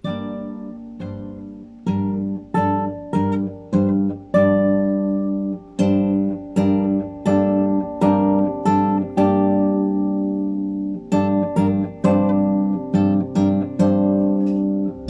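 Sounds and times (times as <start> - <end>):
classical guitar chords: 0.0 - 15.0.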